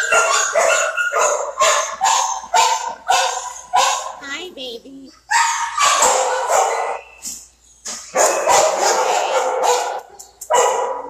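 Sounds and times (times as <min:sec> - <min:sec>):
dogs barking loudly: 0:00.0 - 0:04.5, 0:05.2 - 0:11.0.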